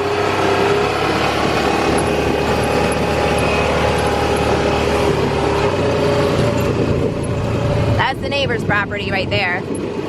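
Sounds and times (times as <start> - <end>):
vehicle engine droning with whine: 0.0 - 10.0.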